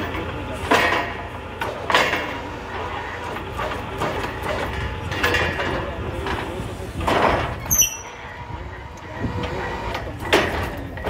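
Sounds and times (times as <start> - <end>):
drilling rig humming: 0.0 - 11.0.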